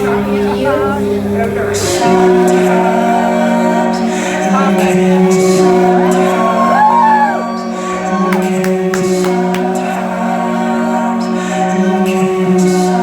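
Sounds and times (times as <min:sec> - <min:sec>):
rock band droning chord: 0:00.0 - 0:13.0.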